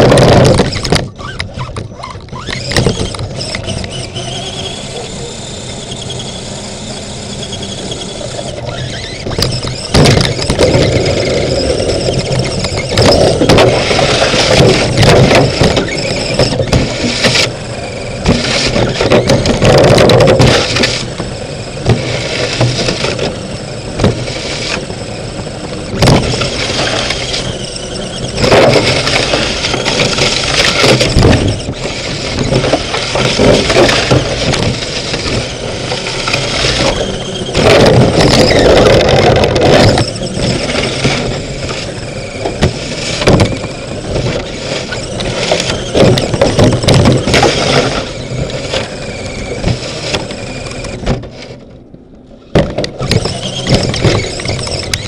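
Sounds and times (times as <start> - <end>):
plastic body knocks and rattles: 0.0 - 4.1, 8.6 - 17.6, 18.2 - 23.4, 24.0 - 24.9, 25.6 - 51.7, 52.5 - 55.0
electric motor and gears whirring: 0.0 - 55.0.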